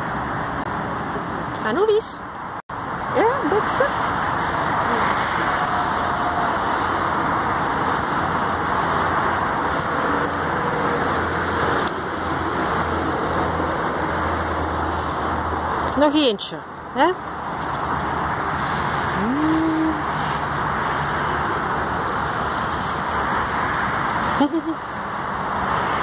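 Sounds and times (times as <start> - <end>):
road traffic roar: 0.0 - 26.0.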